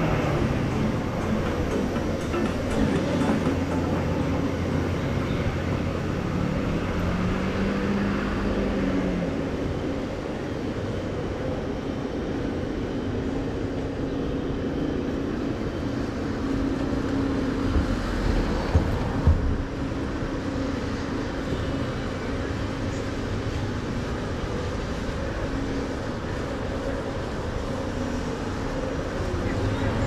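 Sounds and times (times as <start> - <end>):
city street traffic hum: 0.0 - 30.0.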